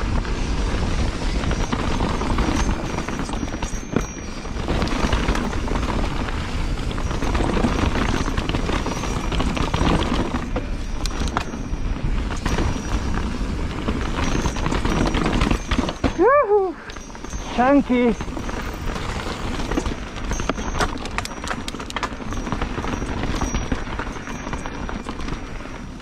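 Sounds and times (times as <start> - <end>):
bike knocks and rattles: 0.0 - 26.0
tyre and trail noise: 0.0 - 26.0
wind rumble on microphone: 0.0 - 26.0.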